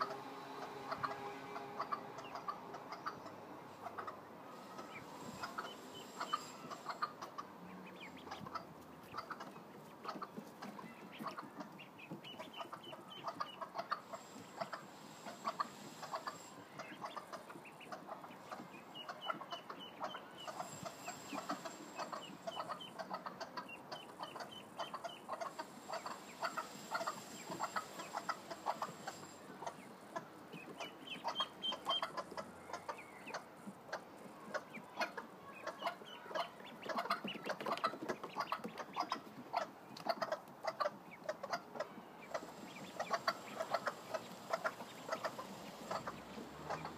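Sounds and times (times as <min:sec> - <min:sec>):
ducklings peeping: 0:00.0 - 0:46.9
hens clucking: 0:00.0 - 0:46.9.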